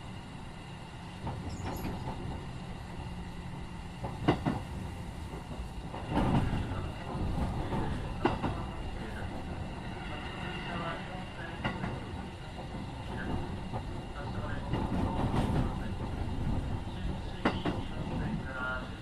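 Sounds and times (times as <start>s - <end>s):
train rolling noise: 0.0s - 19.0s.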